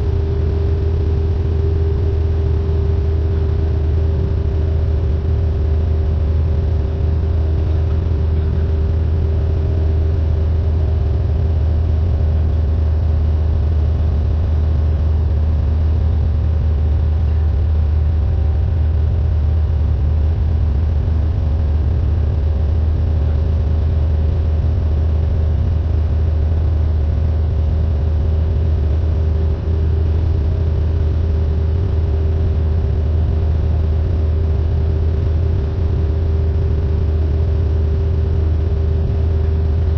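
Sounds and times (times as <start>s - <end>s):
plane cabin engine drone: 0.0s - 39.9s.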